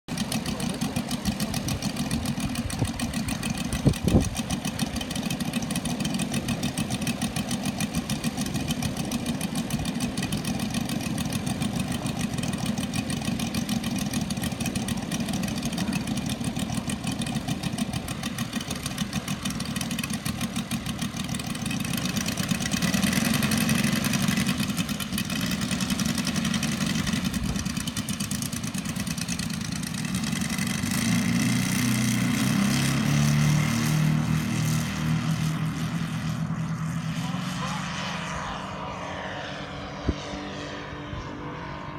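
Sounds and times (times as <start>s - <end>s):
model plane engines idling: 0.1s - 41.9s.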